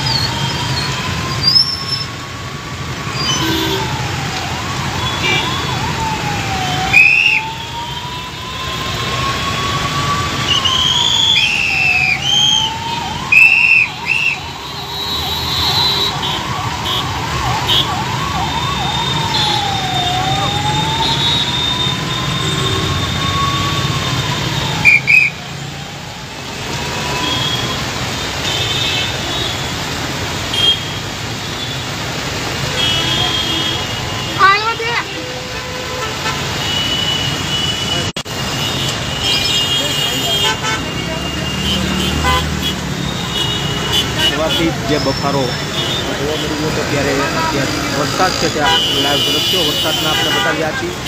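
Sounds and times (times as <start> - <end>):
emergency siren wailing: 0.0 - 28.0, 32.5 - 36.4, 39.4 - 51.0
heavy rain: 0.0 - 51.0
traffic on wet road: 0.0 - 51.0.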